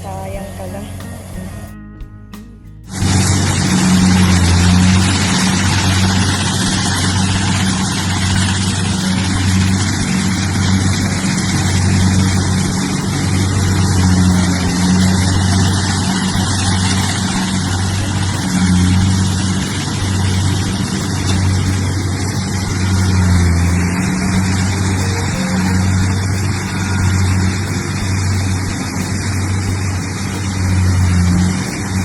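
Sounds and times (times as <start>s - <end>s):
harvester engine humming: 0.0s - 32.0s.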